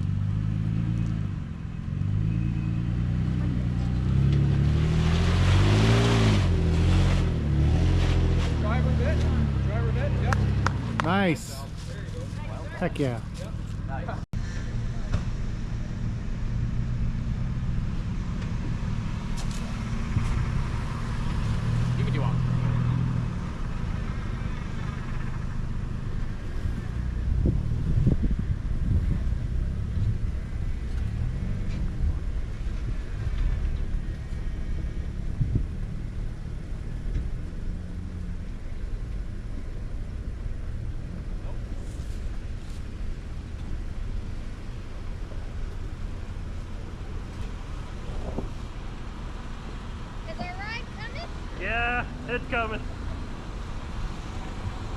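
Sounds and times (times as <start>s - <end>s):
truck engine running at low revs: 0.0s - 54.9s.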